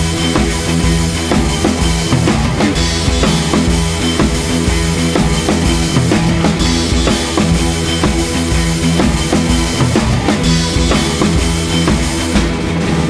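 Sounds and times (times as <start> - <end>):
band music: 0.0 - 13.0
drum kit beat: 0.0 - 13.0.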